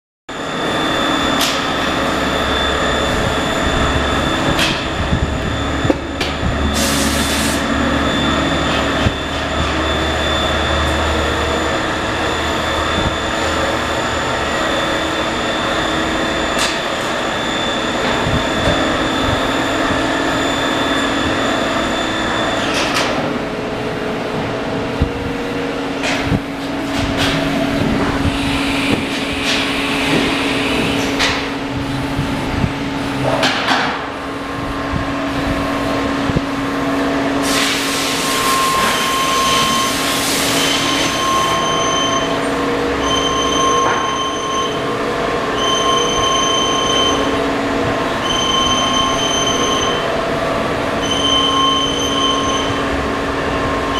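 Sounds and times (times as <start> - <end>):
high whining tones: 0.3 - 33.5, 34.1 - 53.9
workshop machinery hum: 0.3 - 53.9.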